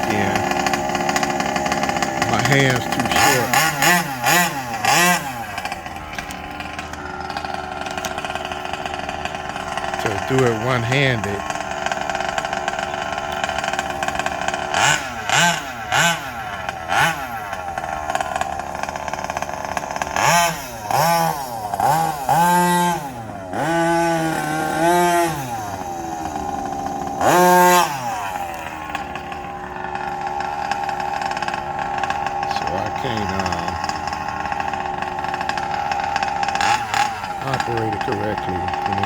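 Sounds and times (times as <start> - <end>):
small two-stroke engine revving: 0.0 - 39.0.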